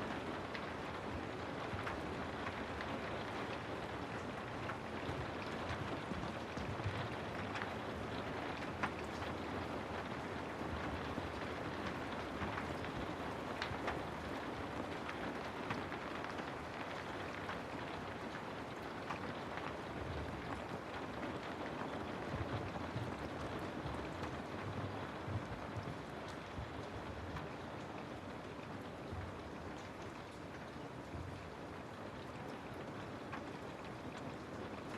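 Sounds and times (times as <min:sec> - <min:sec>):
rain falling: 0:00.0 - 0:34.9
raindrops ticking: 0:00.0 - 0:34.9.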